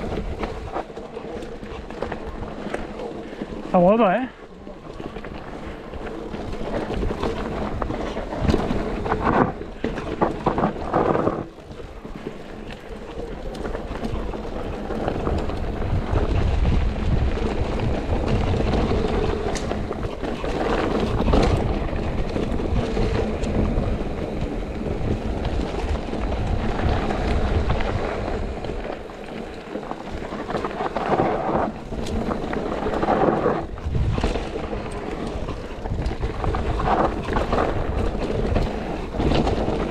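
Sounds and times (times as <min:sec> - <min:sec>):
wind rushing over microphone: 0:00.0 - 0:04.3, 0:05.1 - 0:39.9
bike clattering over rough ground: 0:00.0 - 0:39.9
bike tyre rumble: 0:00.0 - 0:39.9.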